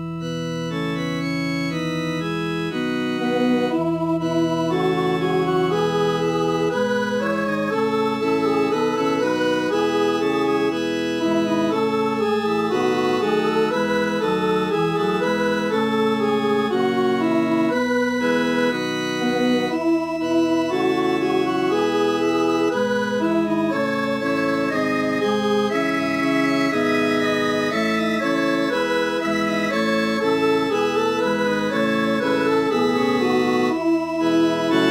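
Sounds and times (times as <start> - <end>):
synthesized organ-like choral chords: 0.0 - 34.9.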